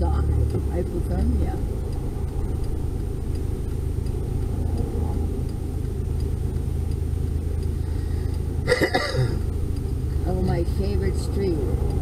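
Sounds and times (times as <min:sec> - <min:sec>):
car engine rumble: 0:00.0 - 0:12.0
turn signal ticking: 0:00.0 - 0:12.0.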